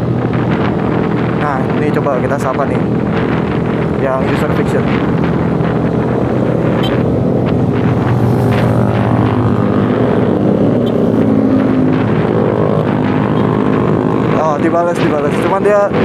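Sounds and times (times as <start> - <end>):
motorcycle engine cruising: 0.0 - 16.0
wind on microphone: 0.0 - 16.0.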